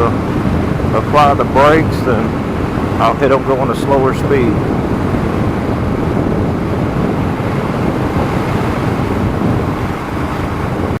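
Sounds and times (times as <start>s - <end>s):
motorcycle riding along: 0.0s - 11.0s
wind rushing over microphone: 0.0s - 11.0s.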